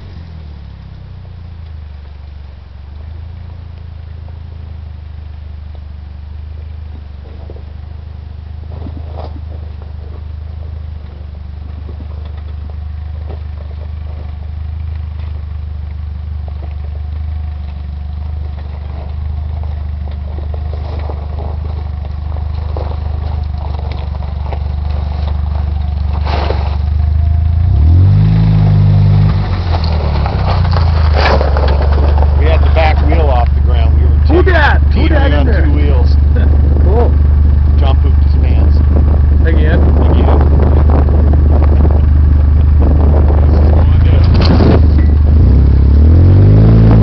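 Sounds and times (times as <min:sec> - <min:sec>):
off-road vehicle engine: 0:00.0 - 0:47.0
rocks crunching under tyres: 0:00.0 - 0:47.0.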